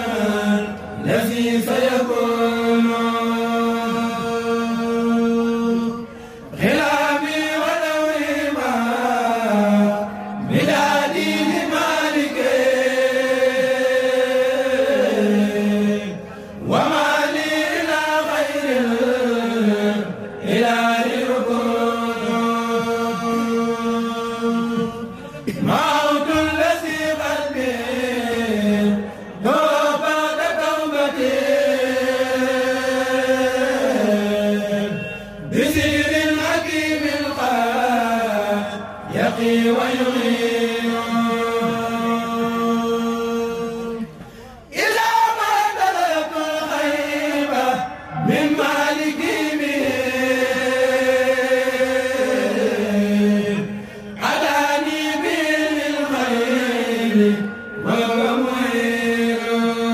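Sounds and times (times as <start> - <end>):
group chanting without instruments: 0.0 - 5.6, 6.4 - 59.9.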